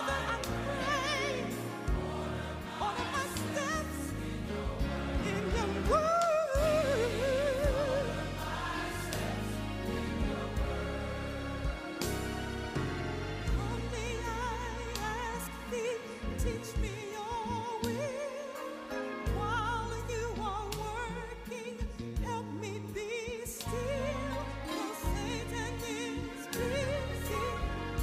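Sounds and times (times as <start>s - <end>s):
instrumental accompaniment: 0.0s - 28.0s.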